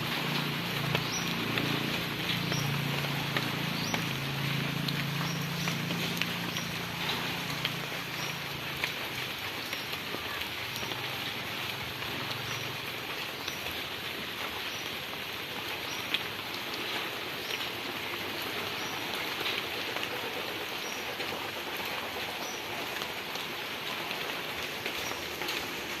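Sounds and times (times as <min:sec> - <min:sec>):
sharp raindrop ticks: 0:00.0 - 0:26.0
steady rain falling: 0:00.0 - 0:26.0.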